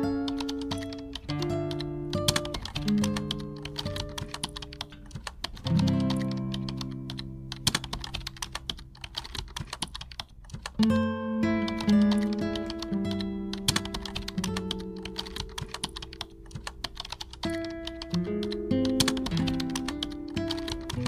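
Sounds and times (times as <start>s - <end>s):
keyboard key clicks: 0.3s - 10.8s, 11.7s - 21.0s.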